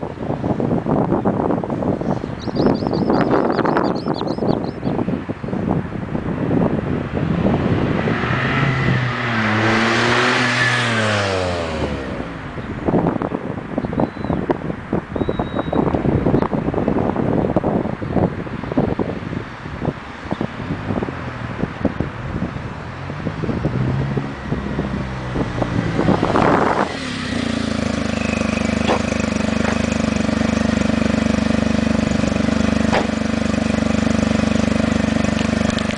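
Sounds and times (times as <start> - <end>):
wind noise on microphone: 0.0 - 35.9.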